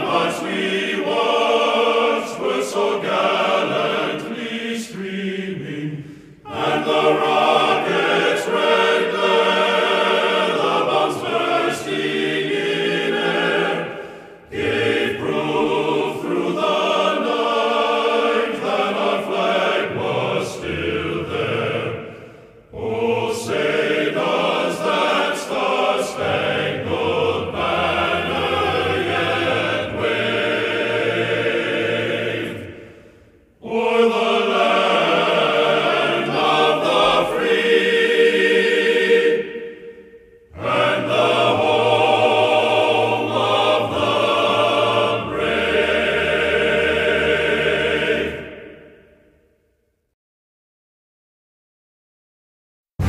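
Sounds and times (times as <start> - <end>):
choral singing: 0.0 - 49.6.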